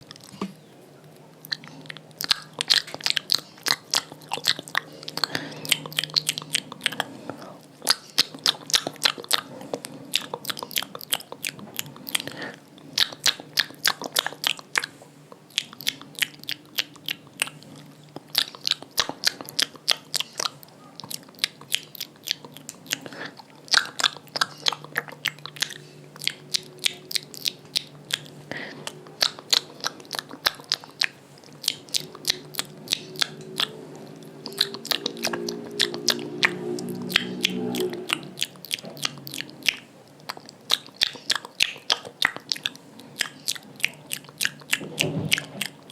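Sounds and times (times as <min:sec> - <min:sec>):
wet mouth clicks and smacks: 0:01.4 - 0:45.9.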